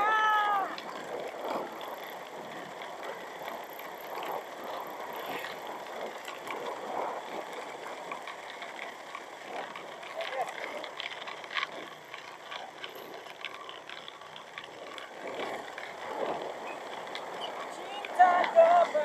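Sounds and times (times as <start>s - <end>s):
scooter road noise: 0.0s - 19.0s.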